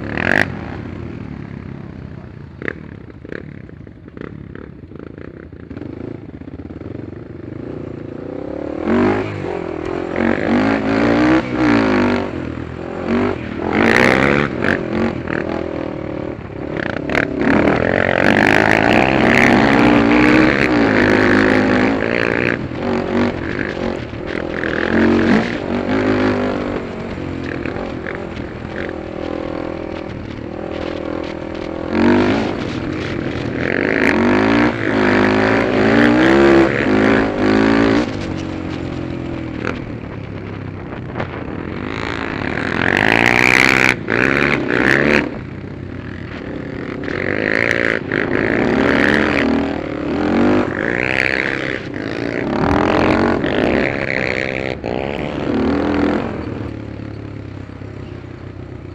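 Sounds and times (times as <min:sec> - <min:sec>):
quad engine revving: 0:00.0 - 0:01.4, 0:06.9 - 0:40.1, 0:40.8 - 0:57.3.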